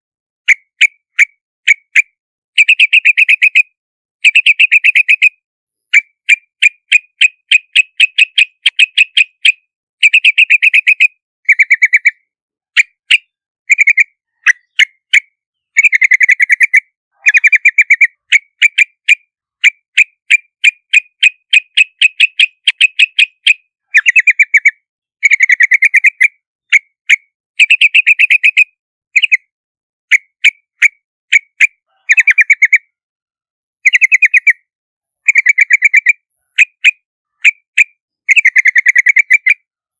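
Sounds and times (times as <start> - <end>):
bird chattering calls: 0.5 - 12.2, 12.8 - 26.8, 31.6 - 32.9, 33.8 - 34.6, 35.2 - 39.6.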